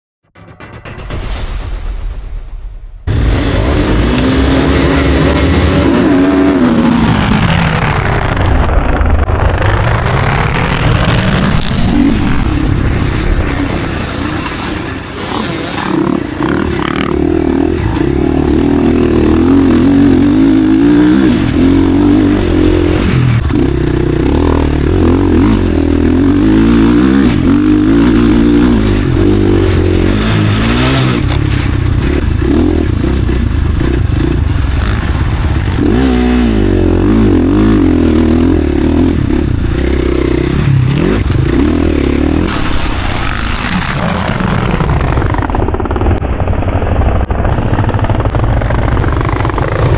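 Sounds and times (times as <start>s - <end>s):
motocross bike engine revving: 3.1s - 46.6s.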